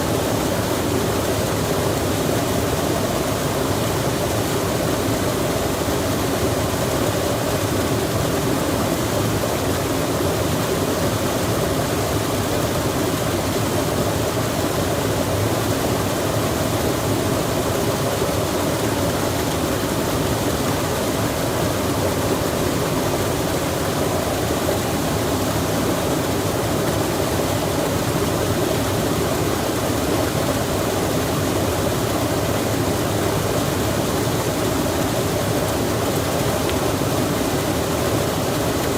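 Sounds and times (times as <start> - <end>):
stream water rushing: 0.0 - 38.9
rain falling: 0.1 - 38.9.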